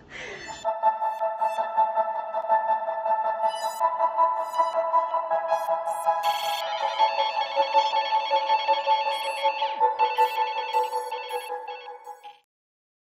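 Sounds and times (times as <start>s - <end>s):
intro music with twinkling notes: 0.6s - 12.4s.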